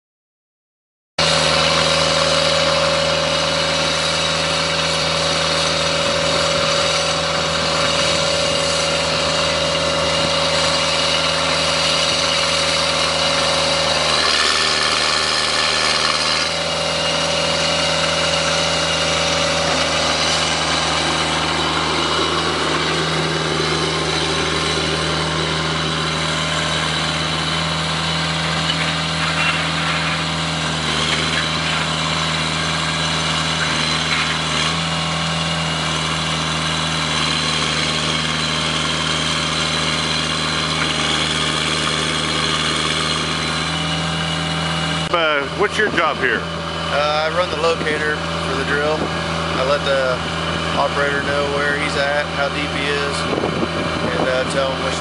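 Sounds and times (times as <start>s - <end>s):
drilling rig engine running: 1.2s - 55.0s.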